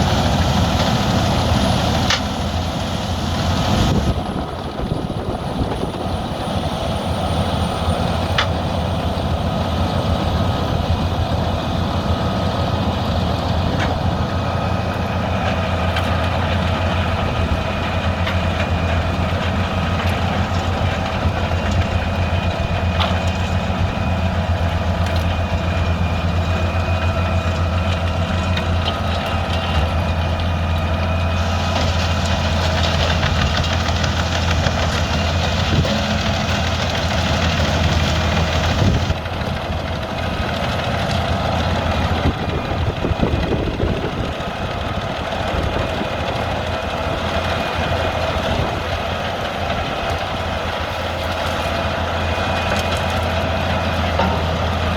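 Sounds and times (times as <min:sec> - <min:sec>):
wood chipper engine droning: 0:00.0 - 0:54.9.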